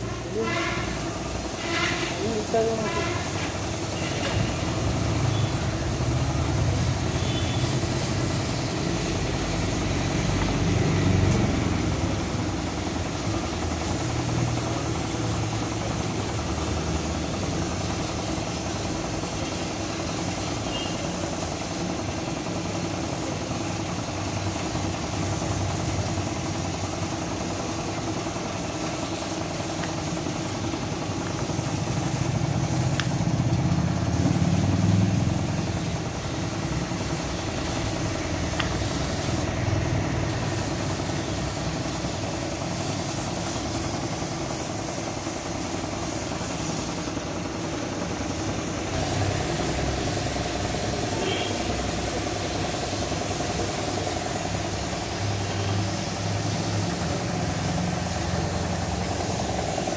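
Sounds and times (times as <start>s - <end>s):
air compressor running: 0.0s - 59.9s
spray gun hissing: 0.0s - 59.9s.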